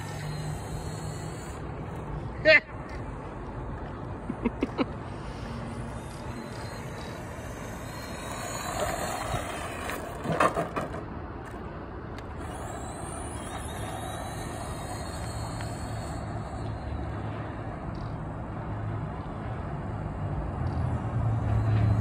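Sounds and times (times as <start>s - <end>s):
high motor whine: 0.0s - 22.0s
rc truck driving: 0.0s - 22.0s.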